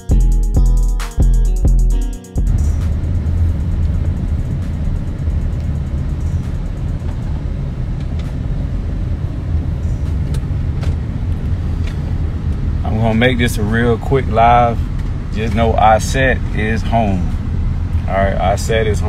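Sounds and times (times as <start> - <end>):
car road rumble from inside: 2.4 - 19.0.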